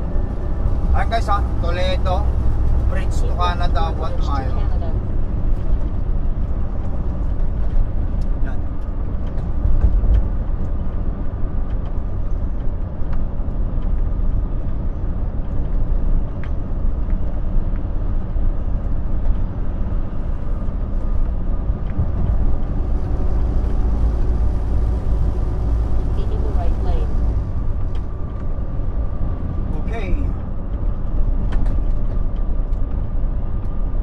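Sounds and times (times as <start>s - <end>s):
truck engine and road drone: 0.0s - 34.0s.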